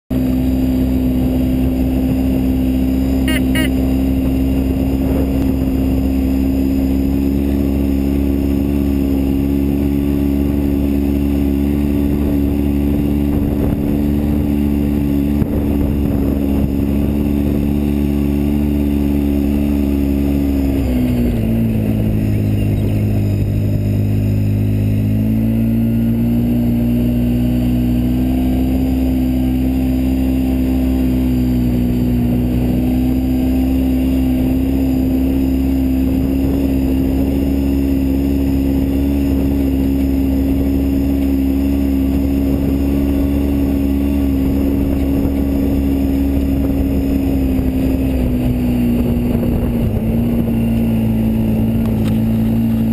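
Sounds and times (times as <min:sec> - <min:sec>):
vehicle engine running: 0:00.1 - 0:52.9.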